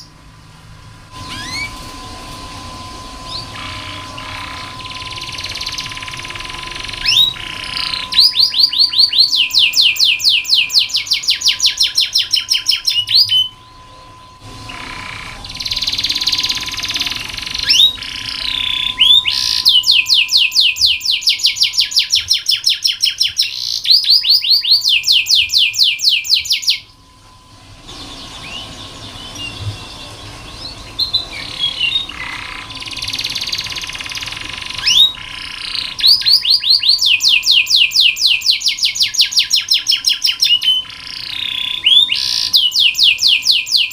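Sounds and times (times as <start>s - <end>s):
canary trilling: 1.1s - 27.0s, 27.9s - 43.9s
soft bird chirps and warbling: 1.2s - 27.0s, 27.9s - 43.9s.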